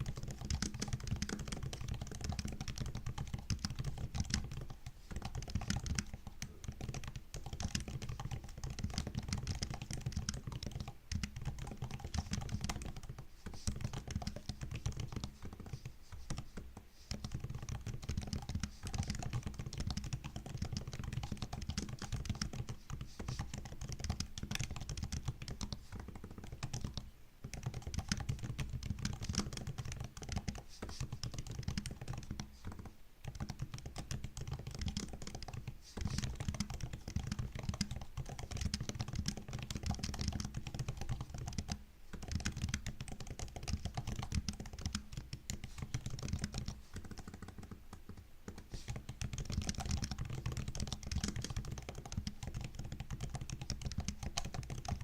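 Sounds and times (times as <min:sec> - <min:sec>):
typing on laptop keyboard: 0:00.0 - 0:55.0.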